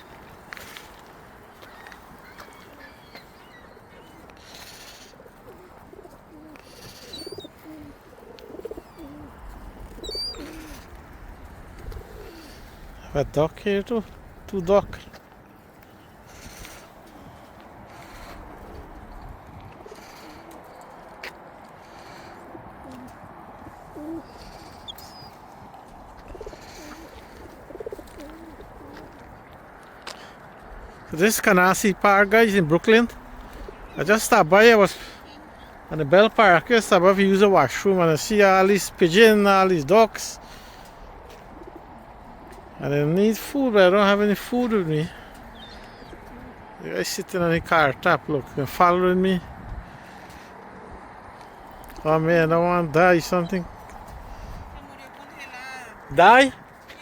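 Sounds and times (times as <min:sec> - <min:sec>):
pigeons cooing: 0:00.0 - 0:13.2, 0:14.0 - 0:46.8
steady outdoor hiss: 0:00.0 - 0:57.0.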